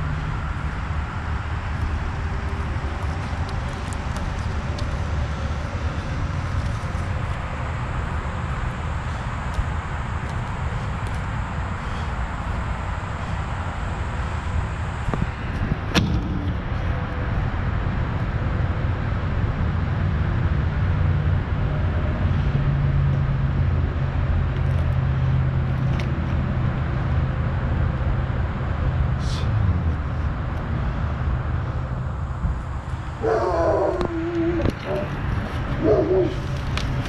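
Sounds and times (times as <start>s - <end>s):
utility vehicle engine running: 0.0s - 37.0s.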